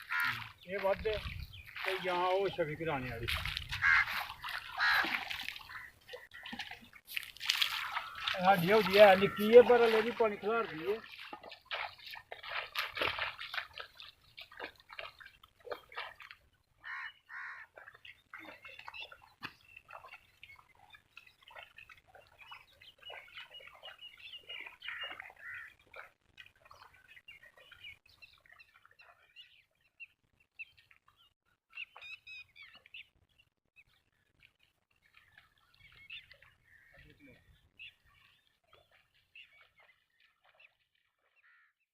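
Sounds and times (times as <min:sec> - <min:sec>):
faint birds chirping: 0:00.0 - 0:41.9.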